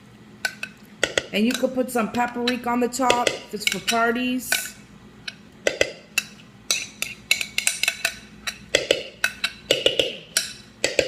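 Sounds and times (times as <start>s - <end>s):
utensils clattering against bowl: 0.5s - 11.0s.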